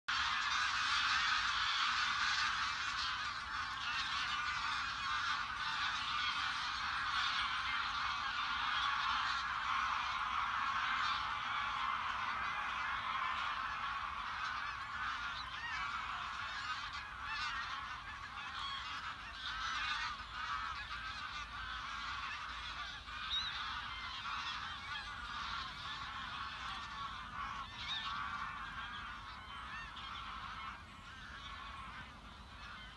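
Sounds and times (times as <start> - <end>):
geese honking: 0.1 - 32.9.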